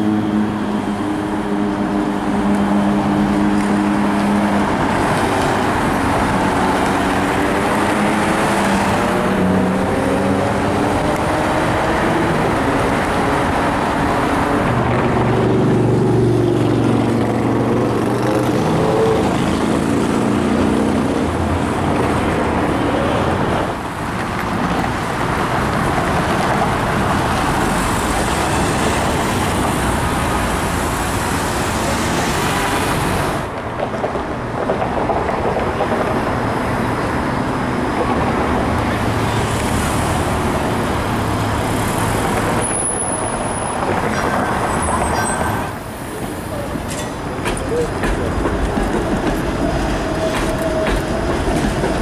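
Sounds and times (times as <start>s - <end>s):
cars and streetcars passing: 0.0s - 52.0s.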